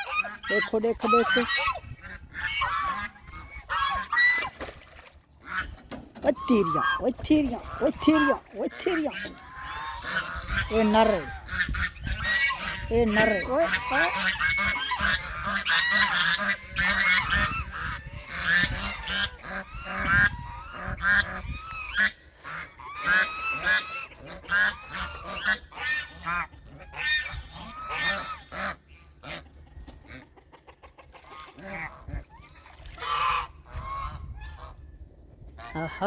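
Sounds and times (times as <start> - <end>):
ducks calling: 0.0 - 34.9.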